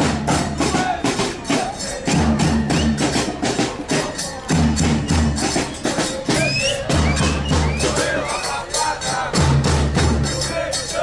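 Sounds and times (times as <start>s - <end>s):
bass drums beating: 0.0s - 8.2s, 9.4s - 10.5s
sticks and small percussion: 0.0s - 11.0s.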